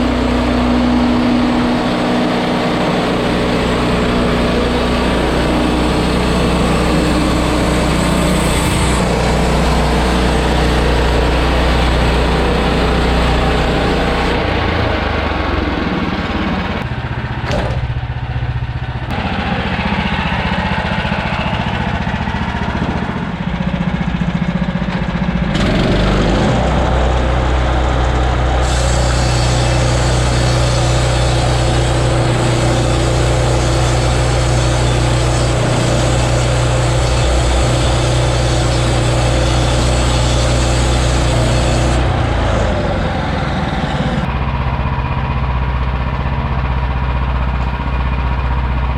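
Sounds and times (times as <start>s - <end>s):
small gas engine running: 0.0s - 48.9s.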